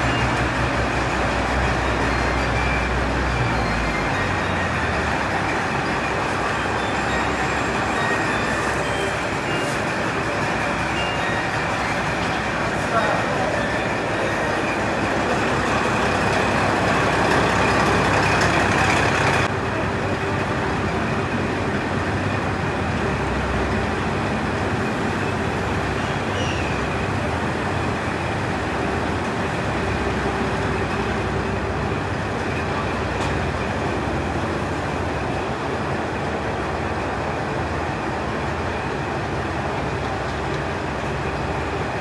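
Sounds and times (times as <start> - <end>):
diesel railcar engine idling: 0.0 - 42.0.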